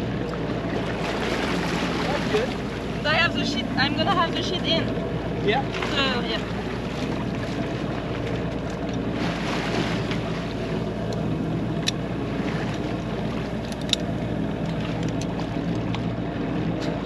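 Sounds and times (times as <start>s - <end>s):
steady low hum: 0.0s - 17.0s
water rushing along a hull: 0.0s - 17.0s.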